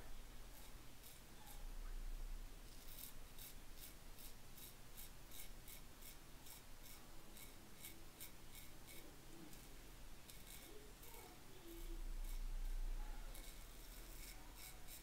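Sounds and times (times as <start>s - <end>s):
razor scraping stubble: 0.5s - 1.7s, 2.6s - 15.0s.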